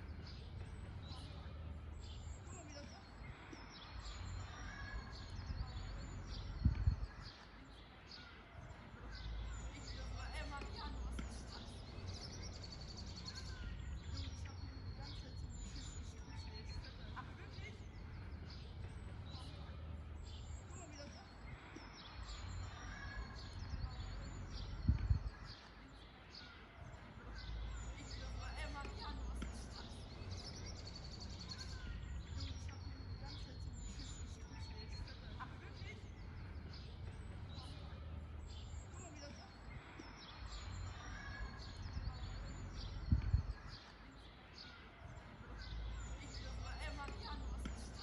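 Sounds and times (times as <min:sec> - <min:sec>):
forest birds chirping: 0:00.0 - 0:48.0.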